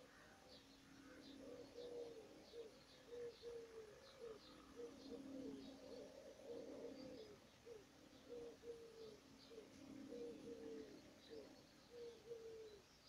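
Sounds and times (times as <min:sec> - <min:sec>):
bird low downward calls: 0:00.0 - 0:13.0
faint low hum: 0:00.0 - 0:13.0
songbird high chirps: 0:00.0 - 0:13.0.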